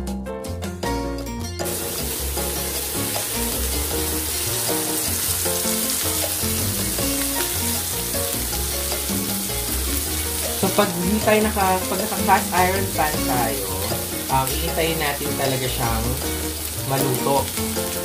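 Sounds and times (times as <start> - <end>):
background music: 0.0 - 18.0
steak sizzling in butter: 1.6 - 18.0.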